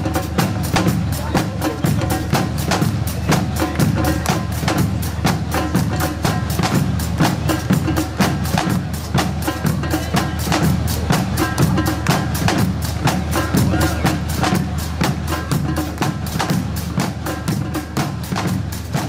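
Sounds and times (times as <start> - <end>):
music with steady percussion beat: 0.0 - 19.0.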